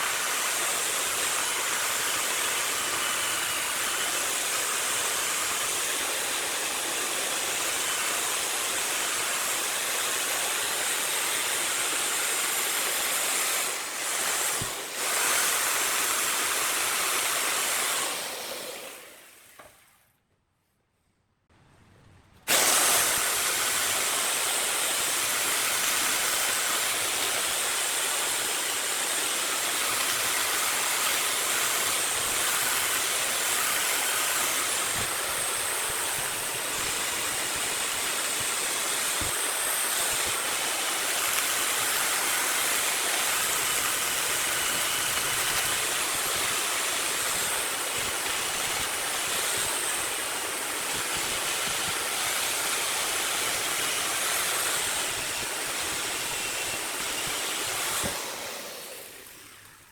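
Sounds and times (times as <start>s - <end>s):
wood lathe hissing: 0.0s - 19.6s, 22.5s - 59.9s.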